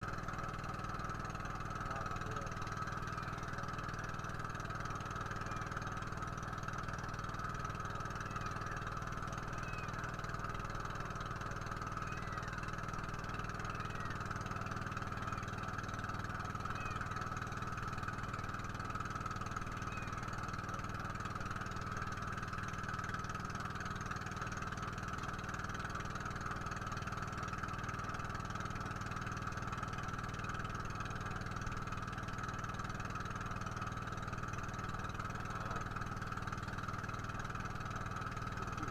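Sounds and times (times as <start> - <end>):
boat engine running steadily: 0.0 - 38.9.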